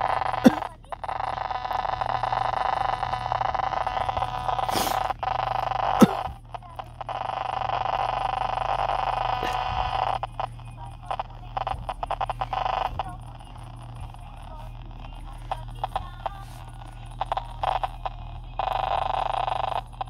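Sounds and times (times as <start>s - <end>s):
tv buzz over hiss: 0.0s - 20.0s.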